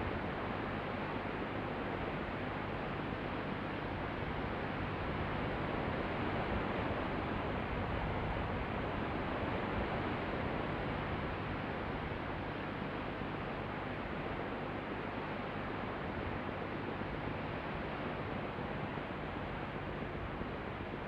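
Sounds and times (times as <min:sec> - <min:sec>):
background noise hiss and rumble: 0:00.0 - 0:21.0.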